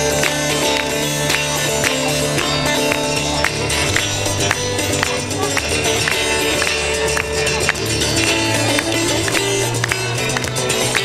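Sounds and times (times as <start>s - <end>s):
fingerstyle acoustic guitar: 0.0s - 11.0s
percussive slaps on guitar: 0.0s - 11.0s.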